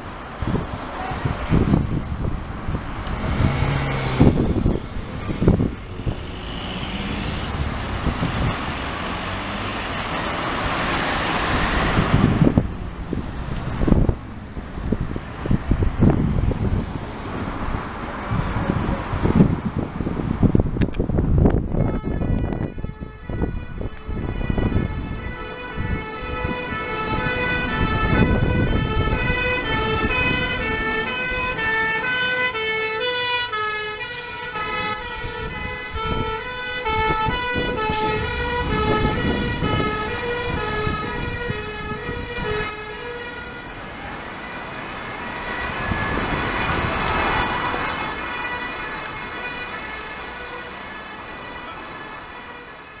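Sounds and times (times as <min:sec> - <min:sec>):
two-tone fire engine sirens: 0:00.0 - 0:14.2, 0:21.4 - 0:53.0
diesel engines rumbling: 0:00.0 - 0:52.8.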